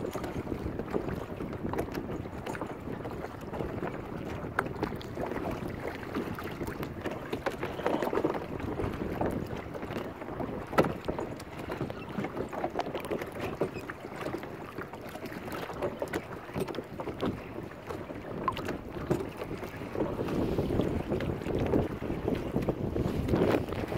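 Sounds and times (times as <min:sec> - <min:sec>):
water sloshing and splashing: 0:00.0 - 0:23.9
wind on microphone: 0:00.0 - 0:23.9.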